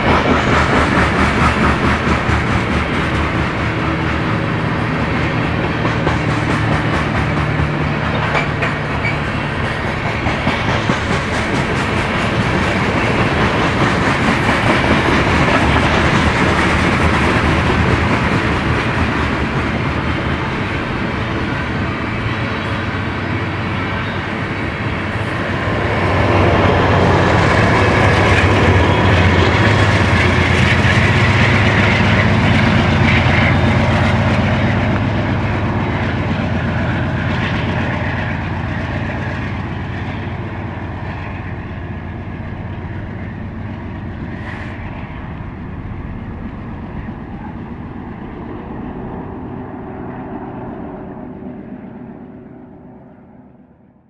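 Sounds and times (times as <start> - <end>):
train wheels clicking on rail joints: 0.0 - 47.6
diesel locomotive engine drone: 0.0 - 54.0.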